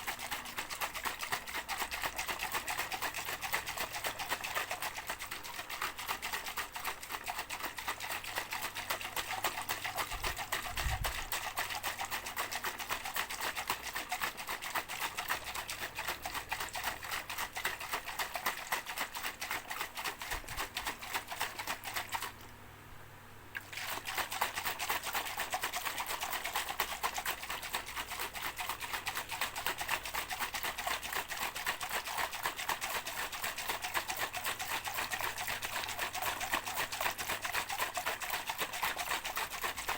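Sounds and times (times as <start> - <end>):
shaker rattling: 0.0 - 22.4, 23.8 - 39.9.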